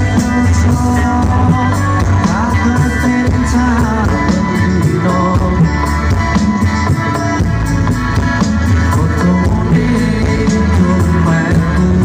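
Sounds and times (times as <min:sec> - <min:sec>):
drum kit: 0:00.0 - 0:12.0
electric guitar: 0:00.0 - 0:12.0
heavy bass: 0:00.0 - 0:12.0.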